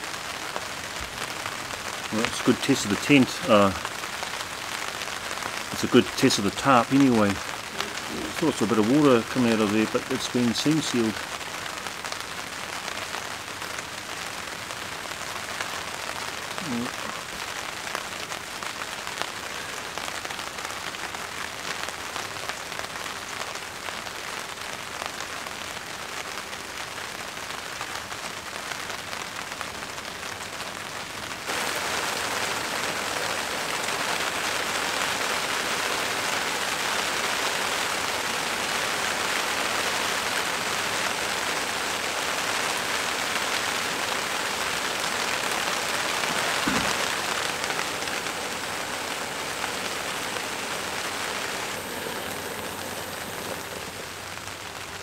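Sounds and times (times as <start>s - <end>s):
rain falling on a tarp: 0.0s - 55.0s.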